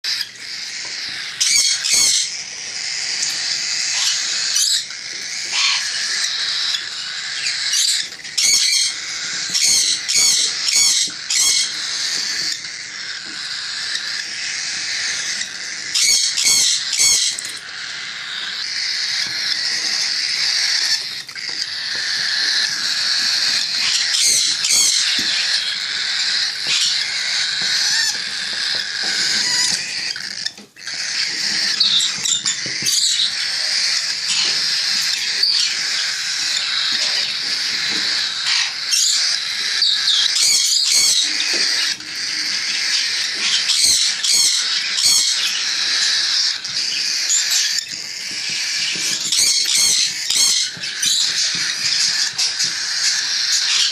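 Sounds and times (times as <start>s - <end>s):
parrots chattering and squawking: 0.0s - 53.9s.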